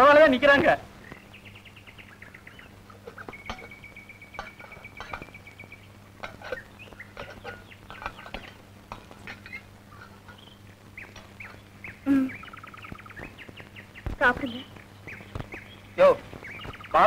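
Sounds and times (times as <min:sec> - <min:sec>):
low steady hum: 0:00.0 - 0:17.0
small birds chirping: 0:00.0 - 0:17.0
chickens clucking: 0:01.0 - 0:17.0.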